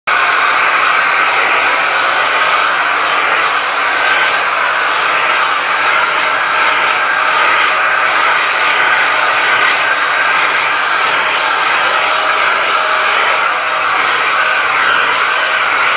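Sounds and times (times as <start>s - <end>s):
vacuum cleaner running: 0.1s - 15.9s.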